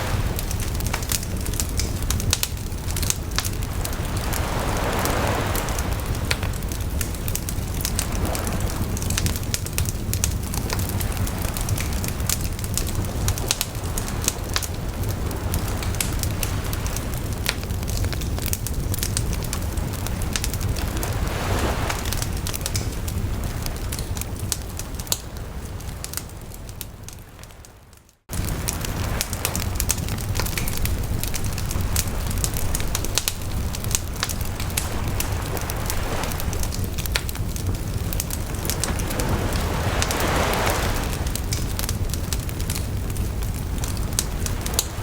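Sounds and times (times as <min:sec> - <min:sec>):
campfire crackling and popping: 0:00.0 - 0:45.0
sea waves washing ashore: 0:00.0 - 0:45.0.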